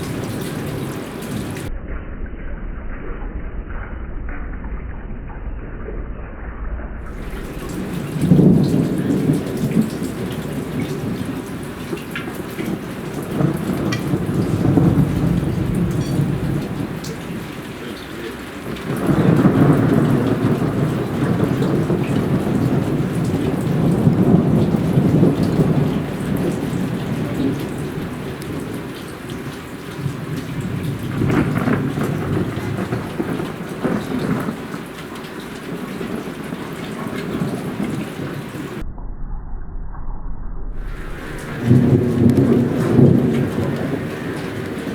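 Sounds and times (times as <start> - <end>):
heavy rain falling: 0.0 - 1.7, 7.1 - 38.8, 40.8 - 44.9
thunder rolling: 0.0 - 44.9.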